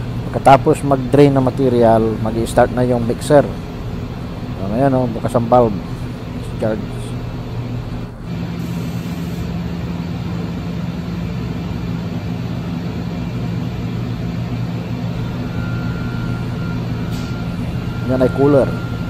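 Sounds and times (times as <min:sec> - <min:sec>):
machinery droning: 0:00.0 - 0:19.0.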